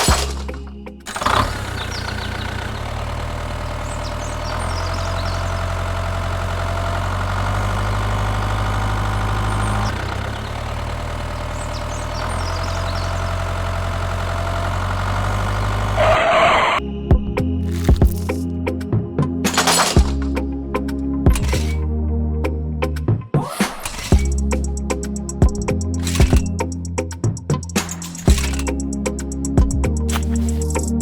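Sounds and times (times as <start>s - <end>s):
engine idling: 0.0s - 16.8s, 19.4s - 21.9s, 24.0s - 31.0s.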